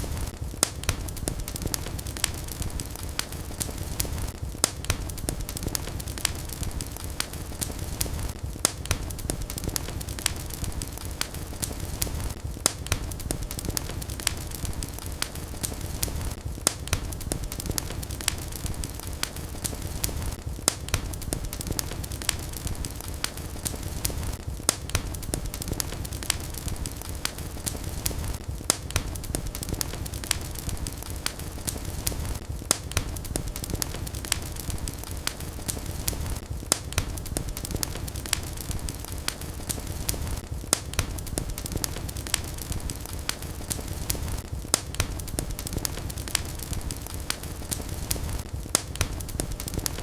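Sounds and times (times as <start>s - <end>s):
low rumble of burning: 0.0s - 50.0s
wood fire crackling and popping: 0.0s - 50.0s.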